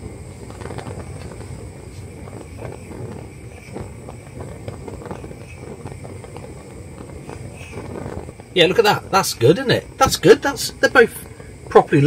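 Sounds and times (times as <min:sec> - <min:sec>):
flame popping and crackling: 0:00.0 - 0:12.0
gas burner rushing: 0:00.0 - 0:12.0.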